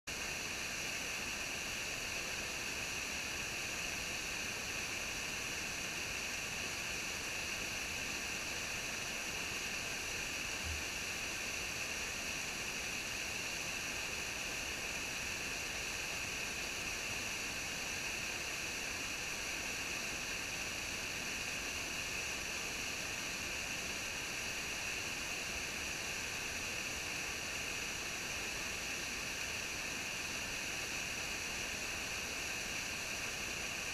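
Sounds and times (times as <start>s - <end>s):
small waterfall rushing: 0.1s - 33.9s.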